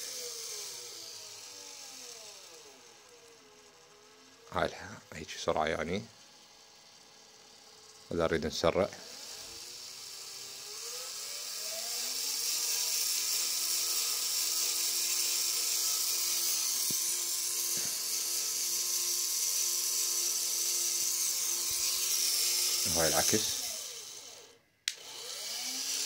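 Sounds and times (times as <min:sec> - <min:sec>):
small electric motor whirring: 0:00.0 - 0:26.0.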